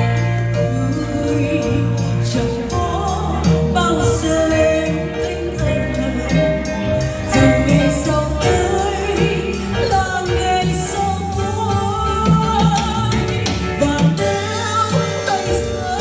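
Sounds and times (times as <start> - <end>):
drum kit: 0.0 - 16.0
live band playing: 0.0 - 16.0
woman singing into a microphone: 0.0 - 16.0.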